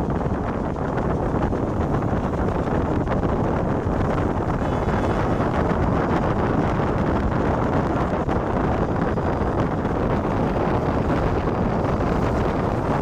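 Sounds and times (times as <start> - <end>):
train rumbling at speed: 0.0 - 13.0
wind buffeting microphone: 0.0 - 13.0.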